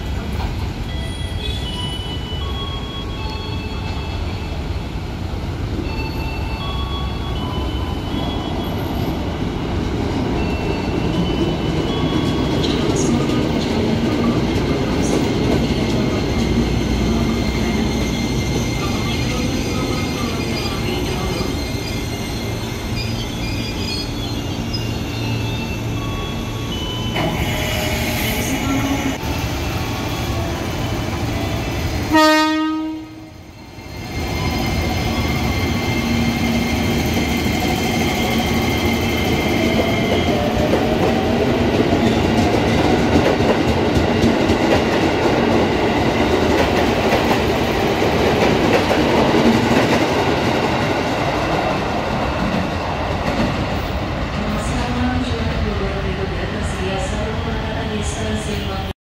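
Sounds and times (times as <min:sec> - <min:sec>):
train wheels rumbling on rail: 0:00.0 - 0:06.8, 0:07.4 - 0:58.9.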